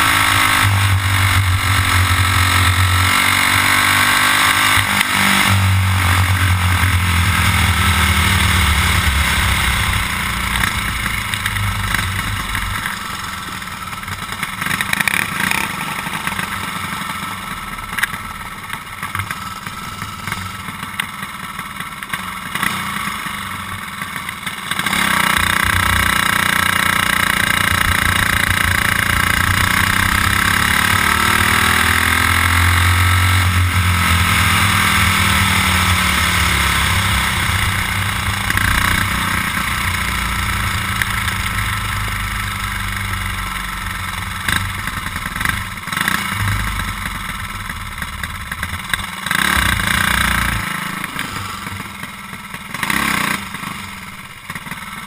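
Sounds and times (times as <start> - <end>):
kart engine: 0.0 - 55.0.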